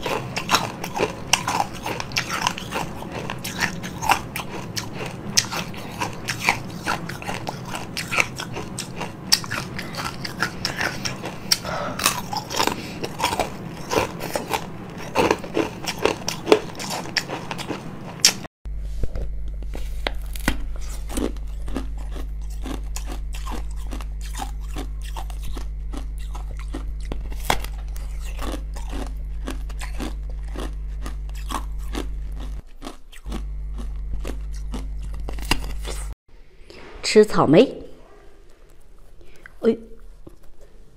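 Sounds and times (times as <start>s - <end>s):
crunching frozen food: 0.0s - 18.4s, 19.1s - 36.1s
low electrical hum: 0.0s - 40.9s.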